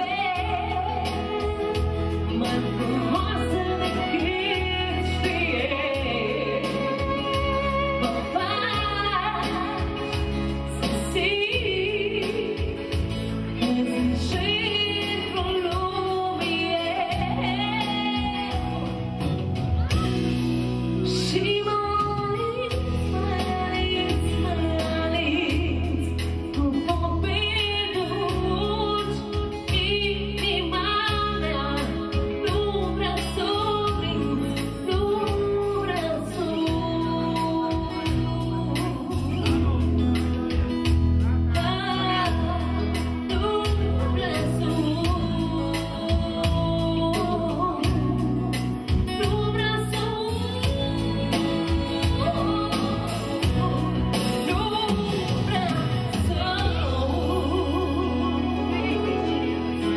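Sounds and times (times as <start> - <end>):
woman singing with vibrato: 0.0 - 40.0, 41.5 - 59.9
band accompaniment with bass: 0.0 - 59.9.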